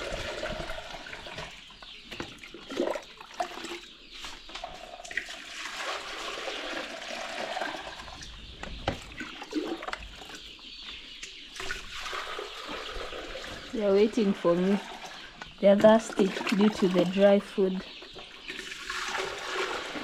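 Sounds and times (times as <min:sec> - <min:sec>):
water pouring and gurgling: 0:00.0 - 0:10.4, 0:11.5 - 0:20.0.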